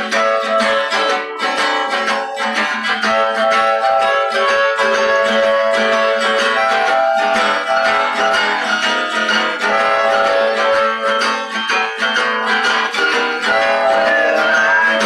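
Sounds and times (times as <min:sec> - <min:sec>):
acoustic guitar strumming: 0:00.0 - 0:15.0
harmonica holding notes: 0:00.0 - 0:15.0.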